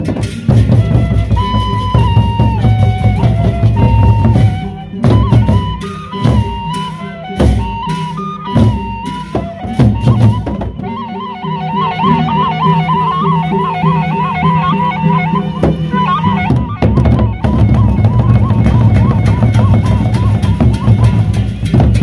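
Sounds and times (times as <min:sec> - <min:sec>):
barrel drums beating: 0:00.0 - 0:11.0, 0:12.0 - 0:22.0
cymbals: 0:00.0 - 0:22.0
wavering wind instrument melody: 0:00.0 - 0:22.0.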